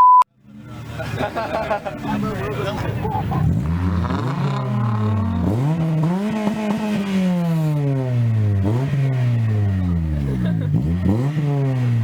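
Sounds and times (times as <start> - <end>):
car engine revving: 0.3 - 12.0.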